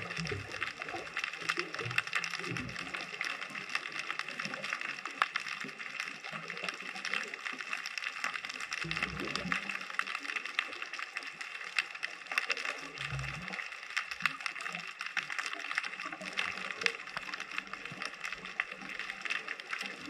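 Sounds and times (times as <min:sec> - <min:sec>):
underwater crackle of tiny clicks: 0:00.0 - 0:20.0.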